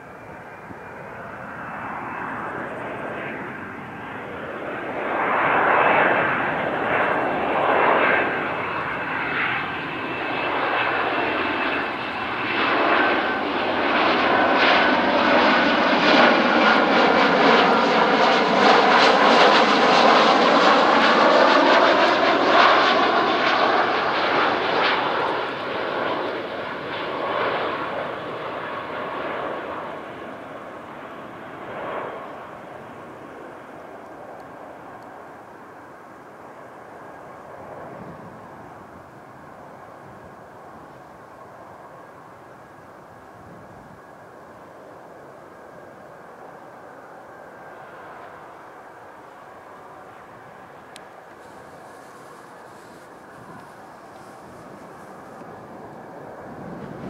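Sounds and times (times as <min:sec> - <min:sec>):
jet airliner flying overhead: 0:00.0 - 0:57.0.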